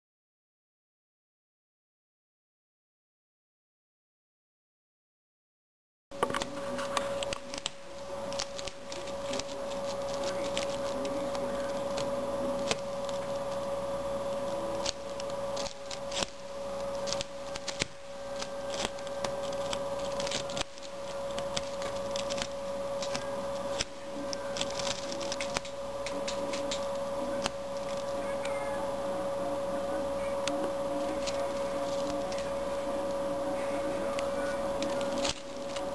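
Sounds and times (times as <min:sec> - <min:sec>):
steady hum: 0:06.1 - 0:35.9
rabbit gnawing dry grass: 0:06.2 - 0:35.9.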